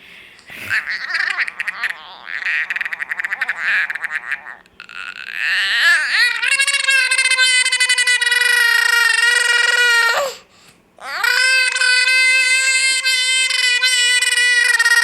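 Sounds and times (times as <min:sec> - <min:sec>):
high-pitched wailing cries: 0:00.8 - 0:10.4, 0:11.0 - 0:15.0.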